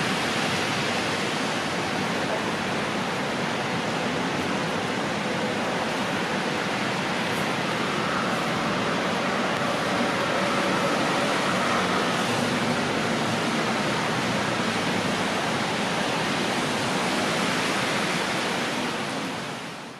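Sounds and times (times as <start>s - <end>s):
outdoor rushing noise: 0.0s - 19.9s.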